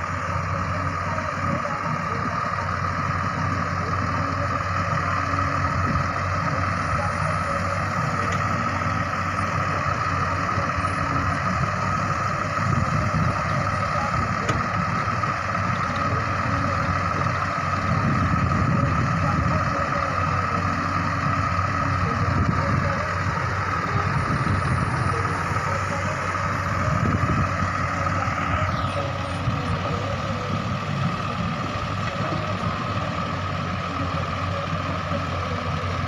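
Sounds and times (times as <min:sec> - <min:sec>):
diesel engine running: 0:00.0 - 0:36.0
steady high whine: 0:00.0 - 0:36.0.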